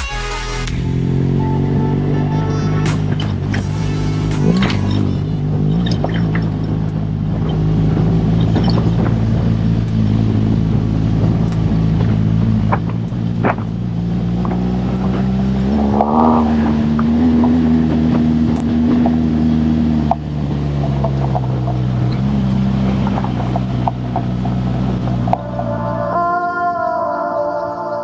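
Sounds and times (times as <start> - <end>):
motorcycle engine running: 0.6 - 26.7.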